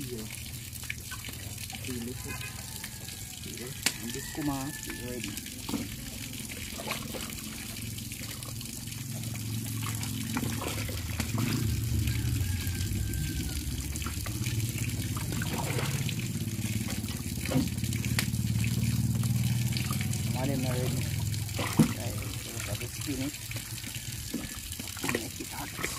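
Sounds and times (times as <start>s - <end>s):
water sloshing in a pot: 0.0s - 25.9s.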